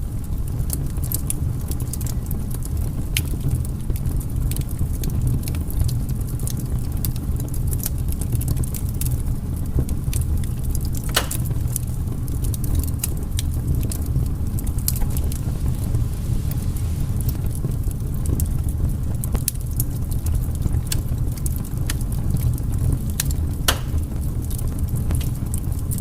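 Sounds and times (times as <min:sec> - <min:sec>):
firewood crackling and popping: 0:00.0 - 0:26.0
steady low rumble: 0:00.0 - 0:26.0.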